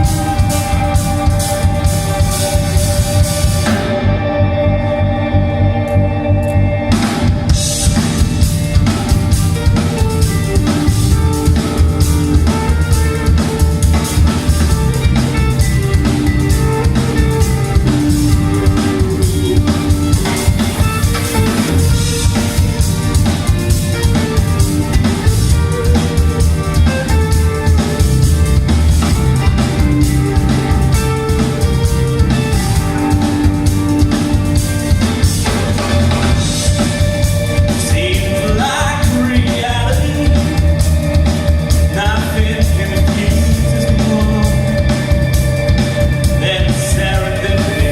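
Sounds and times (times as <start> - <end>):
drum kit beat: 0.0 - 4.3, 6.9 - 47.9
live band playing: 0.0 - 47.9.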